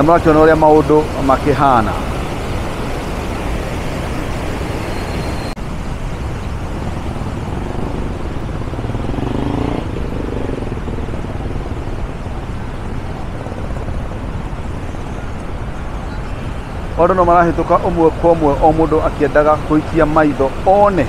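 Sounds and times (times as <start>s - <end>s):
cars passing: 0.0s - 21.0s
flooded river rushing: 0.0s - 21.0s.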